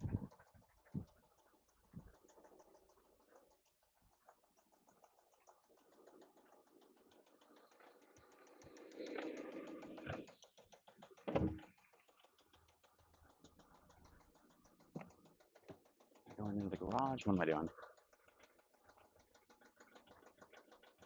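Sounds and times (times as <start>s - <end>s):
car engine knocking: 0.0s - 21.0s.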